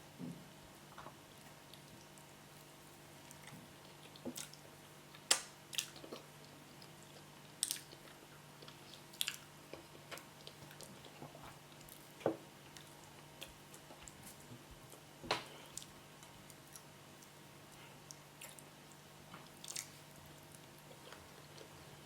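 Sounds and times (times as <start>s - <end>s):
person chewing food: 3.2s - 22.0s.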